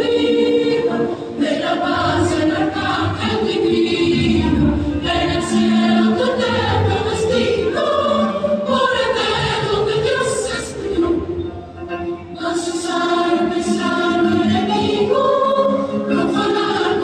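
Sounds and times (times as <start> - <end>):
accompanying music: 0.0 - 17.0
choir singing: 0.0 - 17.0.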